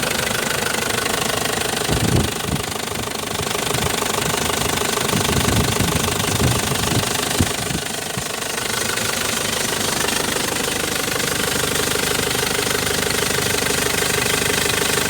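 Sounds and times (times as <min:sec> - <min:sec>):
diesel engine idling with clatter: 0:00.0 - 0:15.0.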